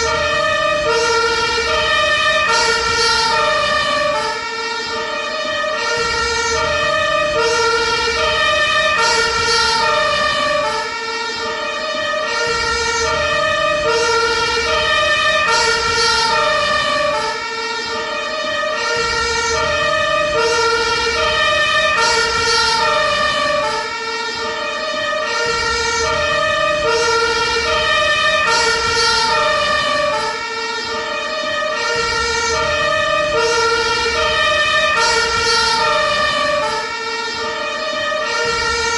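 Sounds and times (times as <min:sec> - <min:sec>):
ambulance two-tone siren: 0:00.0 - 0:38.9.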